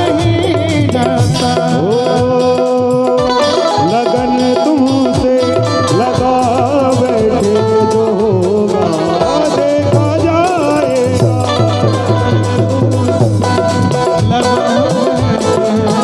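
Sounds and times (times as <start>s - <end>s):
electronic keyboard melody: 0.0s - 16.0s
tabla bass strokes: 0.0s - 16.0s.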